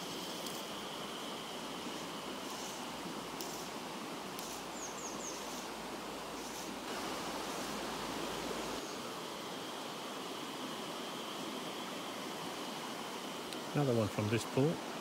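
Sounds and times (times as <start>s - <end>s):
river flowing over stones: 0.0s - 15.0s.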